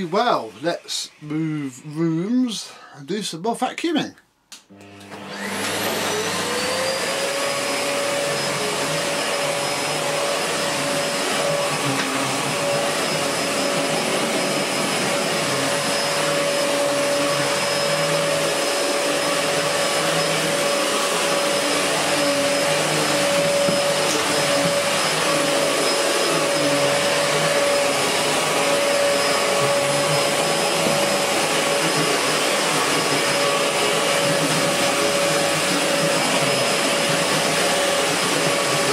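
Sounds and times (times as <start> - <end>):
vacuum cleaner motor whine: 4.7 - 38.9.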